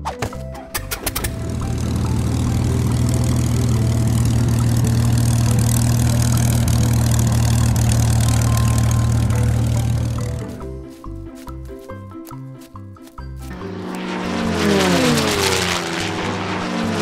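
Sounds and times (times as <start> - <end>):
aeroplane engine drone: 0.6 - 17.0.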